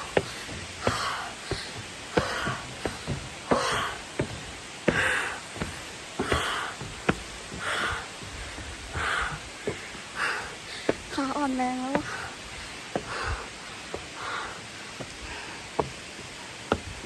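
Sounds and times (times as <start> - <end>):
person breathing hard: 0.0 - 11.1, 12.0 - 16.9.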